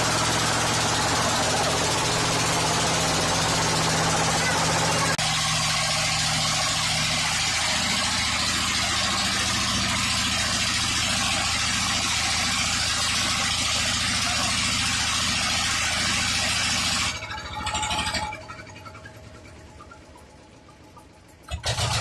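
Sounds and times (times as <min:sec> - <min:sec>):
boat motor pulsing: 0:00.0 - 0:22.0.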